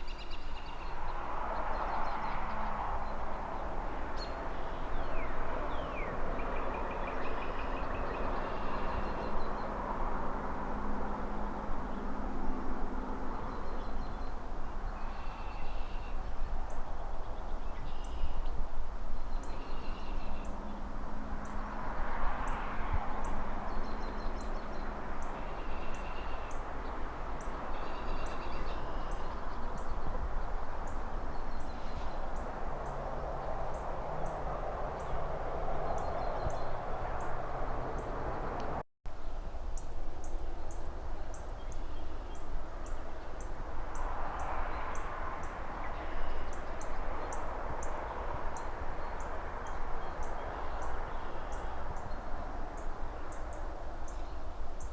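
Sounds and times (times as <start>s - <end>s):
distant traffic hiss: 0.0s - 54.9s
wind in trees: 0.0s - 54.9s.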